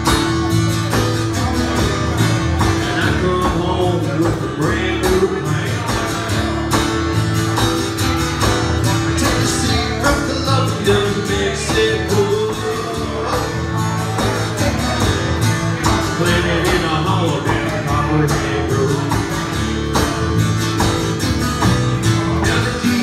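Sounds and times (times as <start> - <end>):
guitar strumming: 0.0 - 23.0
person singing: 1.0 - 7.7, 8.8 - 20.1, 22.0 - 23.0.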